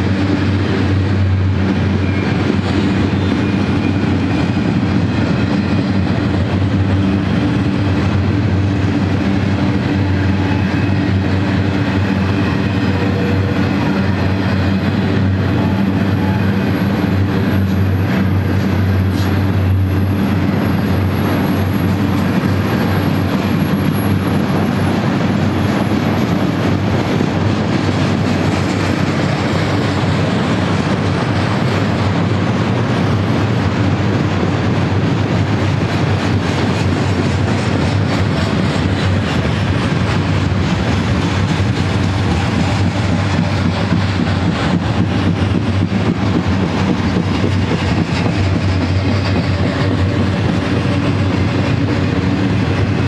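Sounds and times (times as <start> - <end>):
freight train wheels rumbling on rail: 0.0 - 53.0.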